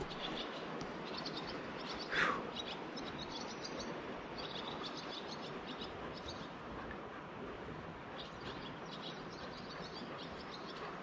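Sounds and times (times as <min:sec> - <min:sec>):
small birds chirping: 0:00.0 - 0:06.6, 0:08.1 - 0:11.0
river water flowing: 0:00.0 - 0:11.0.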